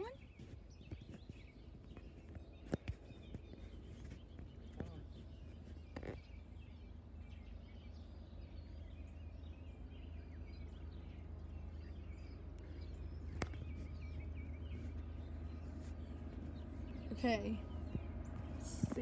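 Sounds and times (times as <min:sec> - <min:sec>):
songbirds chirping: 0:00.0 - 0:19.0
distant freight train rumble: 0:03.3 - 0:19.0.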